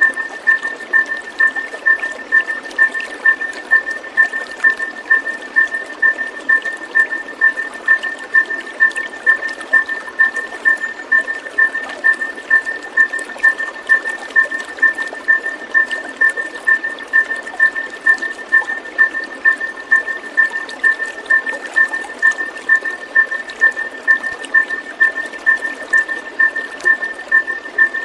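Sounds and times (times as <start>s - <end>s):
running water: 0.0s - 28.0s.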